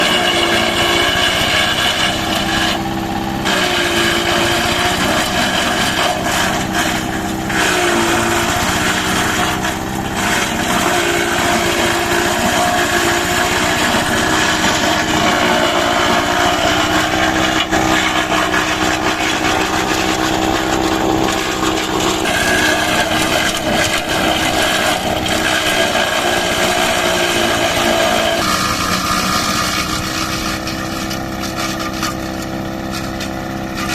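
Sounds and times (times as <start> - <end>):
grass chopper shredding stems: 0.0 - 33.9.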